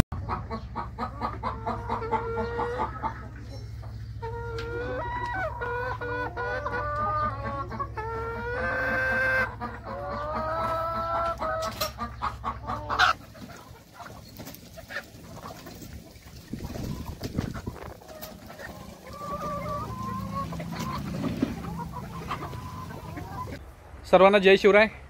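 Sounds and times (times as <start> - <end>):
chickens clucking and calling: 0.2 - 23.7.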